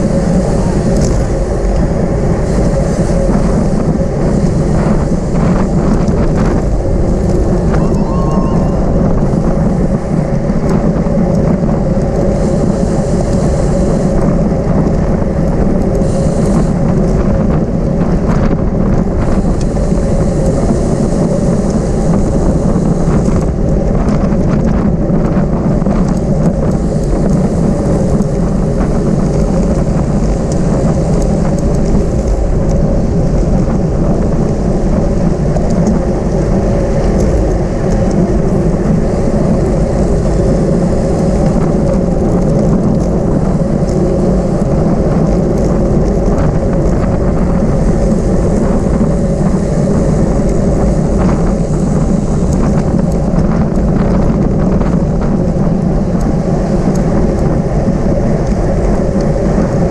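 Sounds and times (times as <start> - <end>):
road and bike noise: 0.0 - 59.9
wind rumble on microphone: 0.0 - 59.9.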